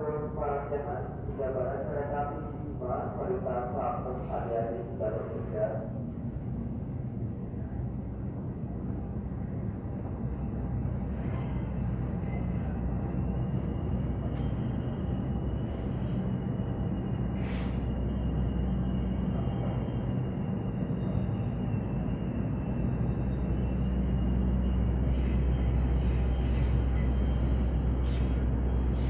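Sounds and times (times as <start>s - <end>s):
freight train rumbling on rails: 0.0s - 29.0s.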